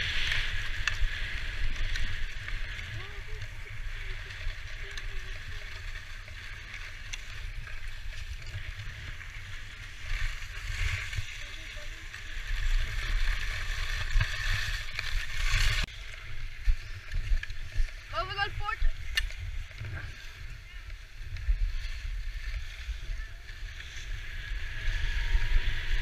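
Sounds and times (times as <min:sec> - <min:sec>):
skis scraping over snow: 0:00.0 - 0:26.0.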